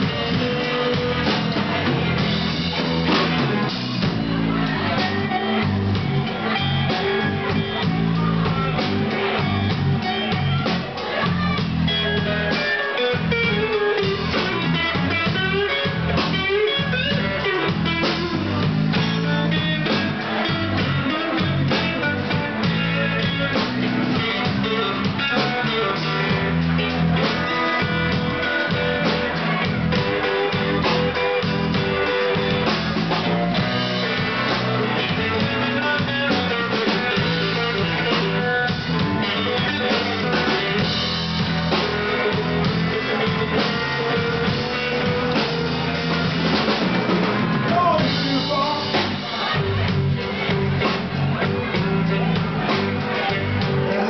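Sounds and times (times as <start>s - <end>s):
drum kit: 0.0s - 54.0s
electric guitar lead: 0.0s - 54.0s.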